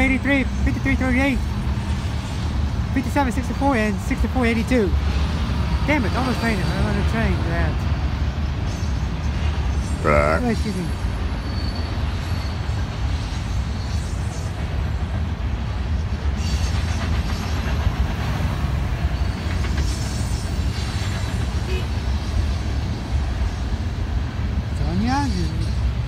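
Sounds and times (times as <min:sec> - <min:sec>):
freight train rumbling on rails: 0:00.0 - 0:26.0.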